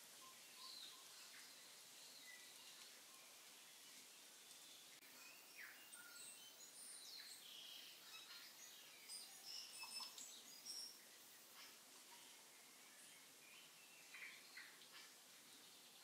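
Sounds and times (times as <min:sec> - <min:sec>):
birdsong chirps and whistles: 0:00.0 - 0:16.0
low steady hiss: 0:00.0 - 0:16.0.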